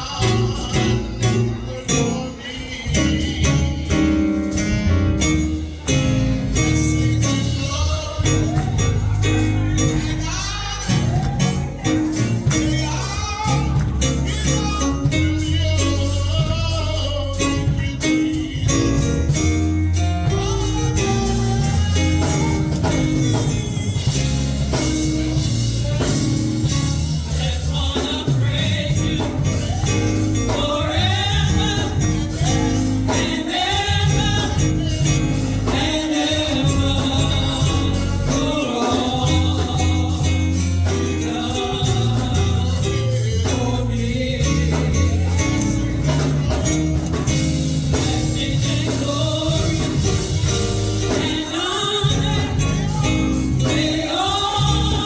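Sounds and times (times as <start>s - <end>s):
gospel singing with band: 0.0s - 55.0s.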